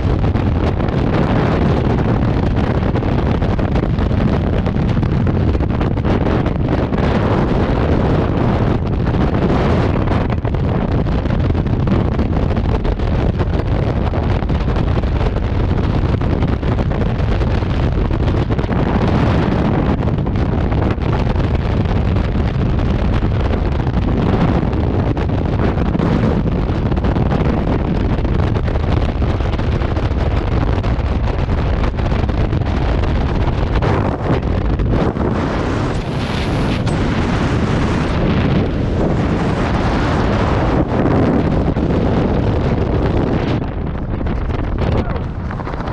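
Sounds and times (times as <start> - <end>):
wind roaring on microphone: 0.0 - 45.9.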